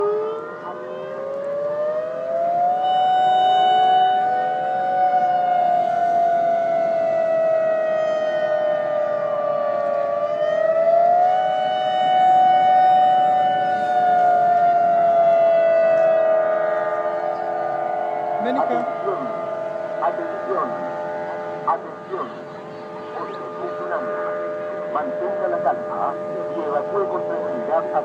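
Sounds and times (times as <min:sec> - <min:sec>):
wailing warning sirens: 0:00.0 - 0:28.0.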